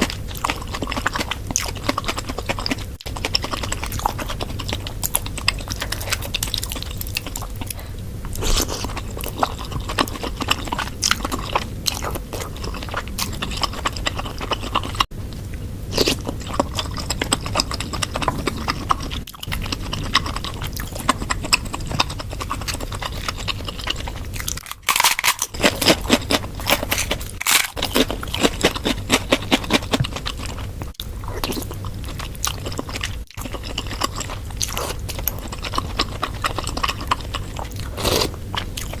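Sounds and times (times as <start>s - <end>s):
close chewing and crunchy bites: 0.0s - 39.0s.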